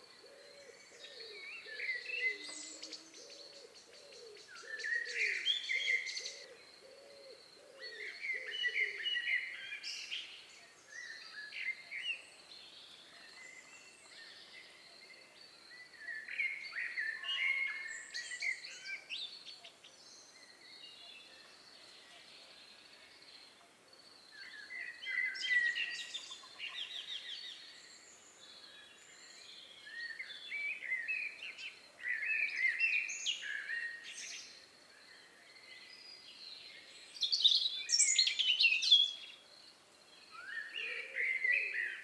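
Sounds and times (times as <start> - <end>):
songbirds chirping and warbling: 0.0 - 42.0.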